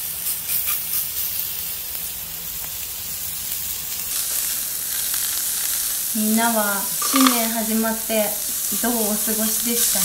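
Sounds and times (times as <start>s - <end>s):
meat sizzling on grill plate: 0.0s - 10.0s.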